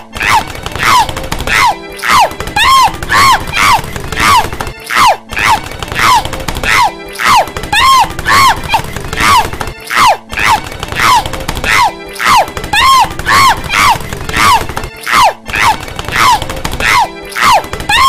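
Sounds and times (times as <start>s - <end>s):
cartoon woman yelping: 0.0s - 18.0s.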